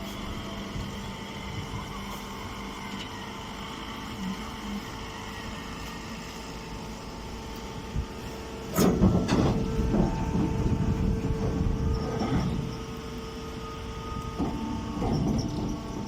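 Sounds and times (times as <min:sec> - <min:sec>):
baler mechanical hum: 0:00.0 - 0:16.0.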